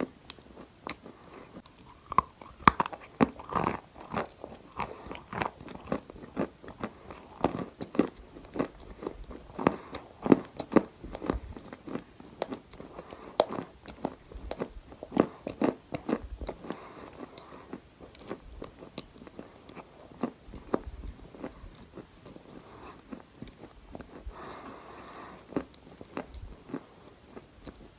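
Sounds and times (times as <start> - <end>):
clay being chewed with crunches: 0.0 - 27.9.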